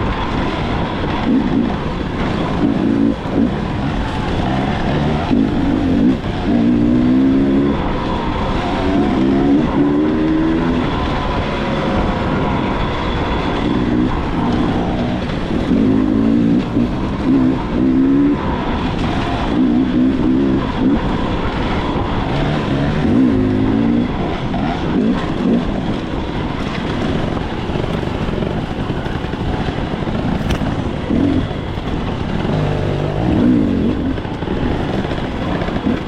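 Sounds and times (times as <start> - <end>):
dirt bike engine: 0.0 - 36.0
wind and road noise: 0.0 - 36.0.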